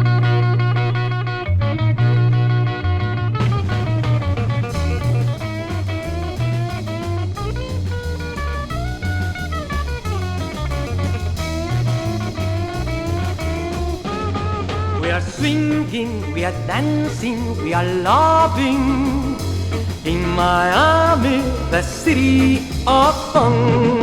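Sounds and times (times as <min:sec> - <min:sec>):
latin swing dance music: 0:03.5 - 0:24.0.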